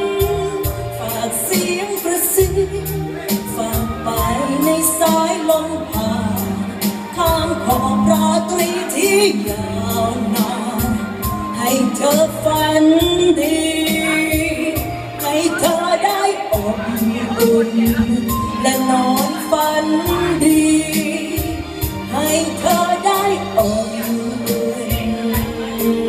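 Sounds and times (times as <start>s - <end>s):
pop backing track with steady beat: 0.0s - 26.0s
woman singing into a microphone: 0.0s - 26.0s.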